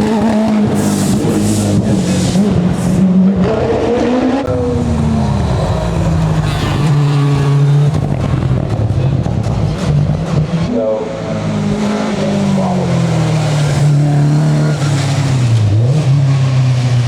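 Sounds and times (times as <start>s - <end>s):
racing car engine at full throttle: 0.0s - 17.0s.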